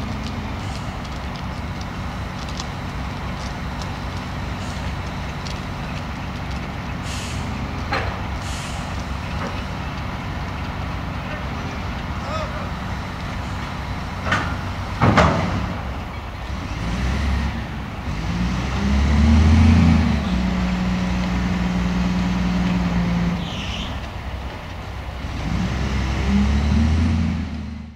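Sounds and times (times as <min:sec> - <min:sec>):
diesel engine revving under load: 0:00.0 - 0:27.9.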